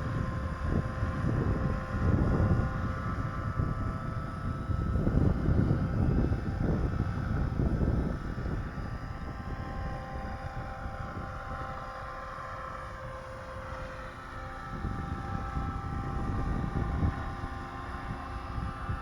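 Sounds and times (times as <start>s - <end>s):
model aircraft motor whining: 0.0s - 19.0s
wind buffeting microphone: 0.0s - 19.0s.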